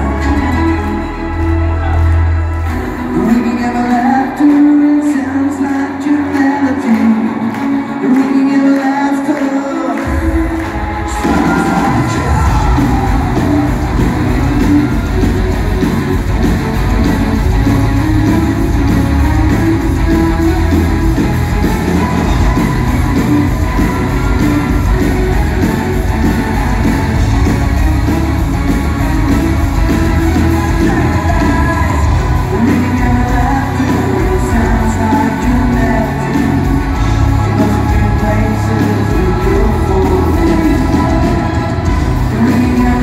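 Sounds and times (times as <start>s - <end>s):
bass guitar: 0.0s - 8.3s, 10.0s - 43.0s
electric guitar: 0.0s - 43.0s
live rock band playing: 0.0s - 43.0s.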